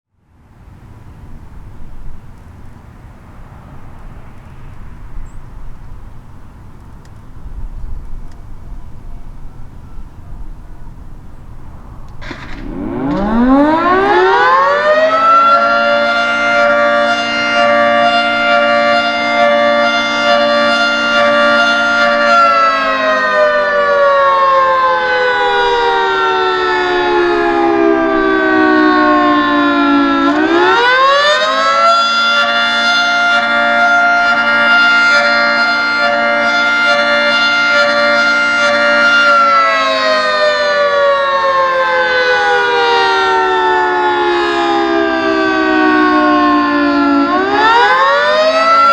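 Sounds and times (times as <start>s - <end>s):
fire siren wailing: 3.1s - 48.9s.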